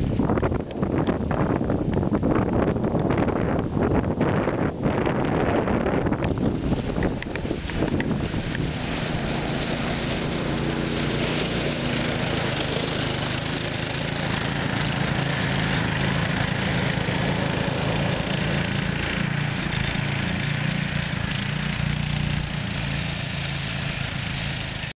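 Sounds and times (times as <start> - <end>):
go-kart engine running: 0.0 - 24.9.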